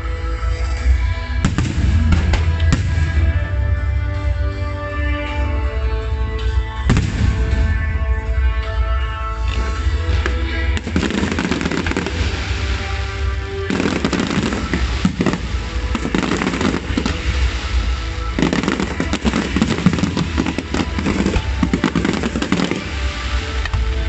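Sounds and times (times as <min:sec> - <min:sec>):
low rumble: 0:00.0 - 0:21.8.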